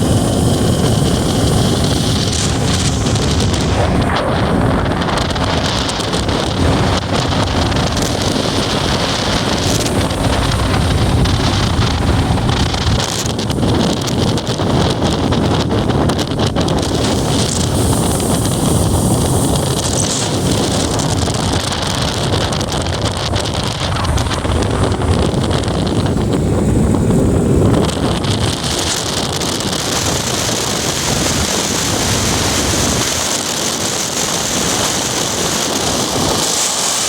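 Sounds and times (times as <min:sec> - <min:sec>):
outboard motor running: 0:00.0 - 0:37.0
water noise against hull: 0:00.0 - 0:37.0
wind buffeting microphone: 0:00.0 - 0:37.0.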